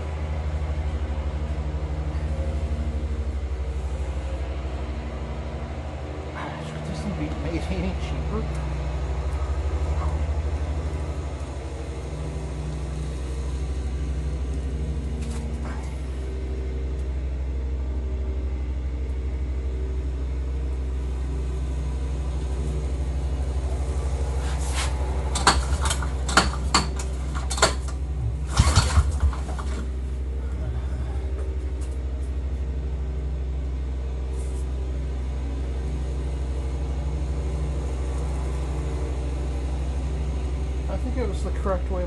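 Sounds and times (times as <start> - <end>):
snowmobile engine idling: 0.0 - 42.0.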